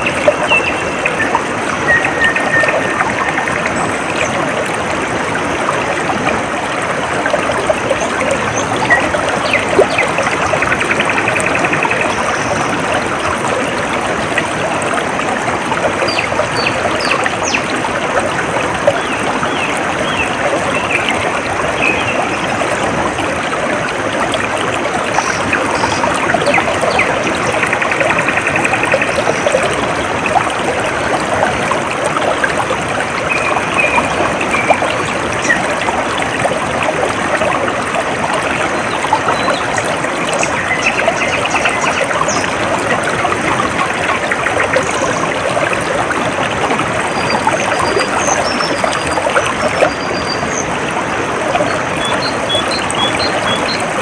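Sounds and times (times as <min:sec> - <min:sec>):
water trickling in a stream: 0:00.0 - 0:54.0.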